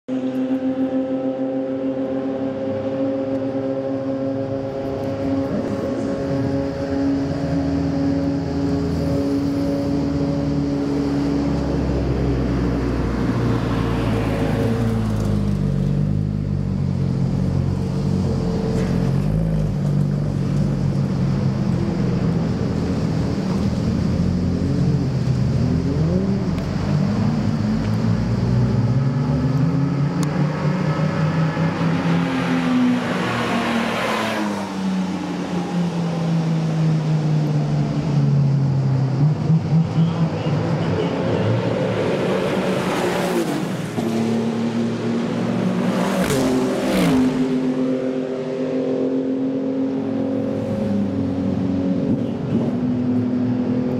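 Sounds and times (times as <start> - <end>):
race car engines: 0.0 - 53.9
race car passing by: 0.2 - 16.1, 24.5 - 38.3, 39.2 - 53.9.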